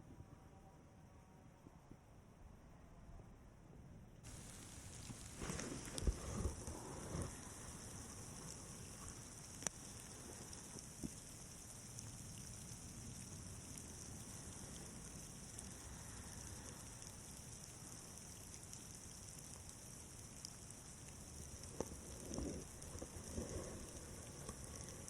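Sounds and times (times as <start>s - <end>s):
light ticks: 4.3s - 25.0s
patter of falling snow: 4.3s - 25.0s.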